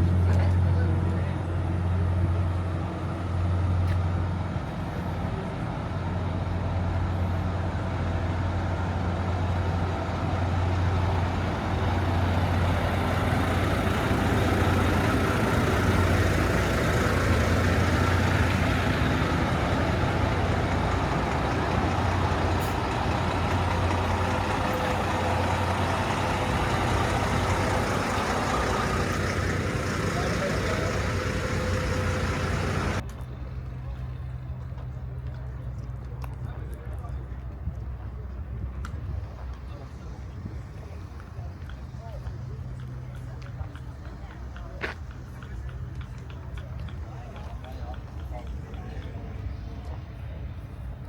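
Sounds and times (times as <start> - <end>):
diesel truck engine idling: 0.0 - 35.7, 39.0 - 51.0
outdoor background noise: 0.0 - 51.0.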